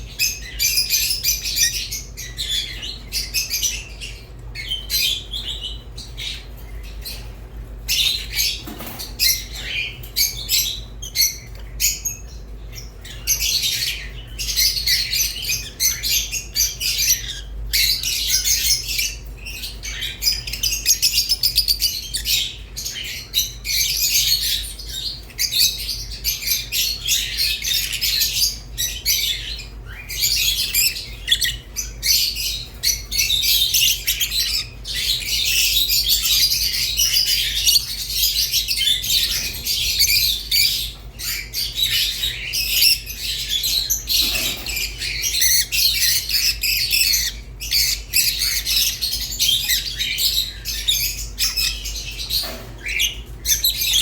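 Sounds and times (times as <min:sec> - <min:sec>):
lovebirds chattering: 0:00.0 - 0:54.0.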